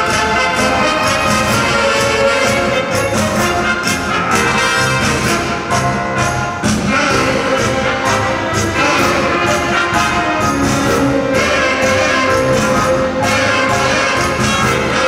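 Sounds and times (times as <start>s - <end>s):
orchestral tango music: 0.0s - 15.0s.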